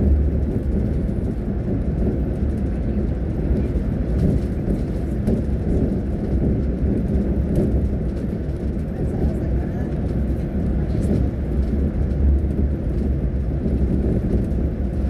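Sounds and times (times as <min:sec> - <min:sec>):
bus road and engine rumble: 0:00.0 - 0:15.0.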